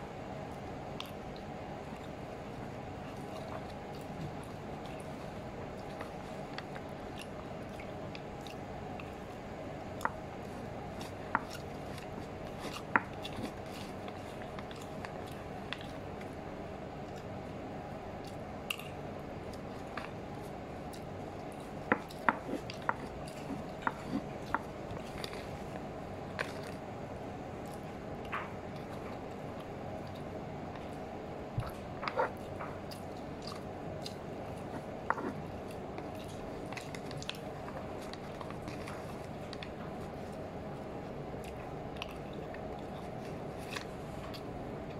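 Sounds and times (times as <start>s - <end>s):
room hum: 0.0s - 44.9s.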